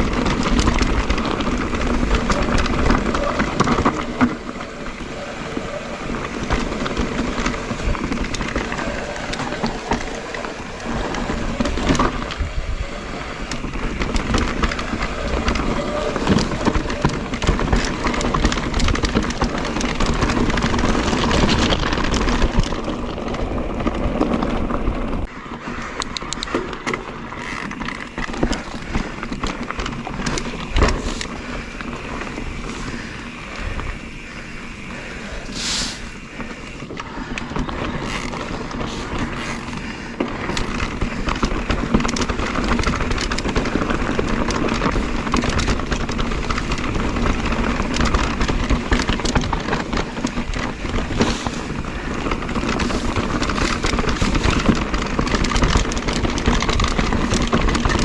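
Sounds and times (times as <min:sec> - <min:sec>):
bike rattling and knocking: 0:00.0 - 0:58.0
tyres crunching on gravel: 0:00.0 - 0:58.0.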